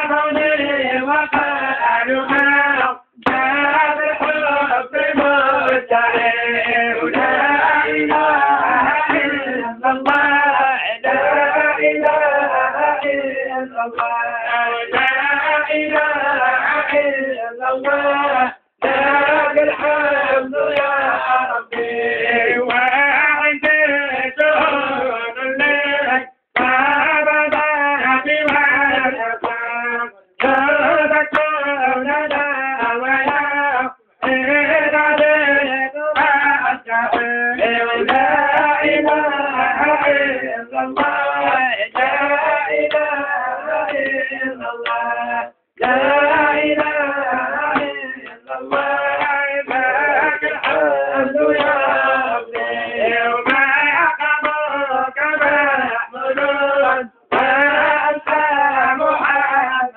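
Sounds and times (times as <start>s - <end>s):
men singing chant: 0.0s - 59.9s.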